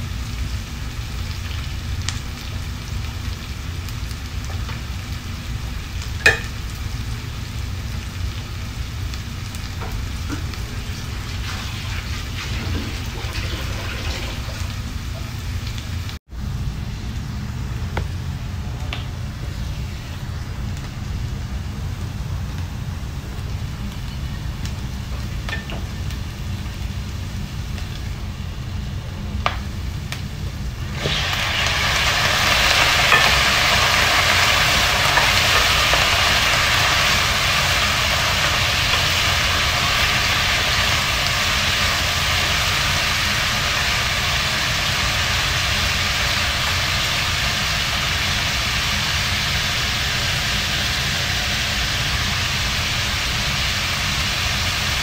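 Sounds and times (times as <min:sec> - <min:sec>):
low steady hum: 0:00.0 - 0:53.9
loud steady sizzle: 0:00.0 - 0:55.0
onions frying in a pan: 0:00.0 - 0:55.0.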